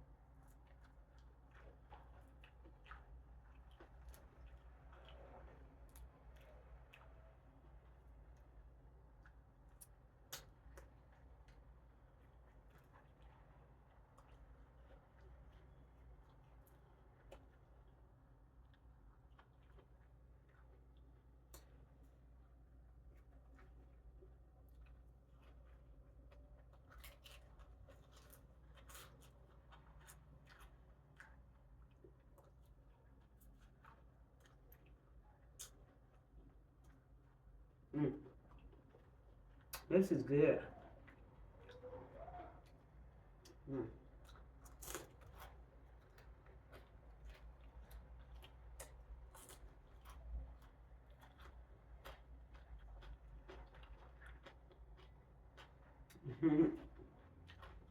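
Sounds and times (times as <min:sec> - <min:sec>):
low steady hum: 0:00.0 - 0:57.9
person chewing: 0:00.3 - 0:39.9, 0:42.6 - 0:57.9.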